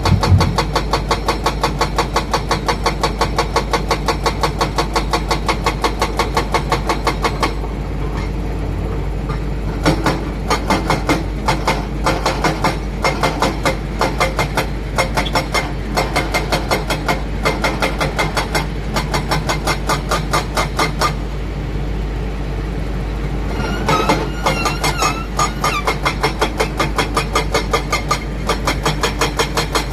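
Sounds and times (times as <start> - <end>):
diesel engine pulsing clatter: 0.0 - 29.9.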